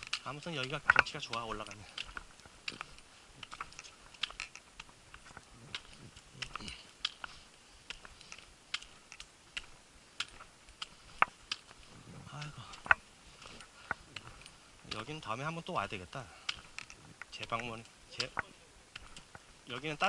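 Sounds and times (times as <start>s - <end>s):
trekking poles and boots on wooden steps: 0.0s - 20.0s.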